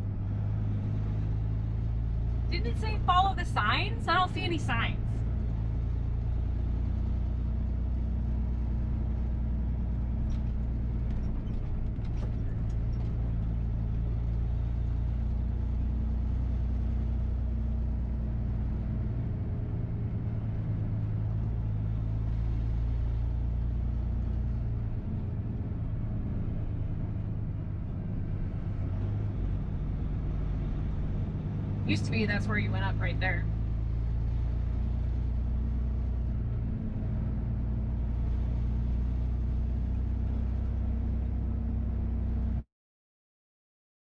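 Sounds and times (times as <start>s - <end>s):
diesel truck engine running: 0.0s - 42.6s
road noise: 0.0s - 42.6s.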